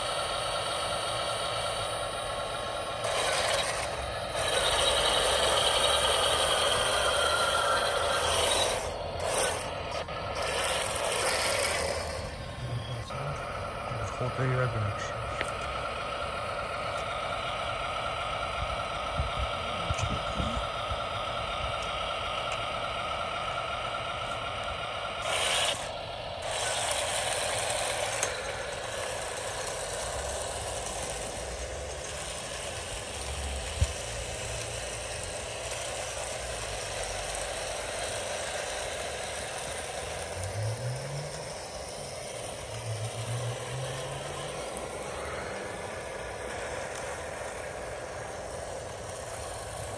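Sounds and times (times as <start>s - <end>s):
electric motor whining: 0.0s - 49.9s
tracks rattling: 0.0s - 49.9s.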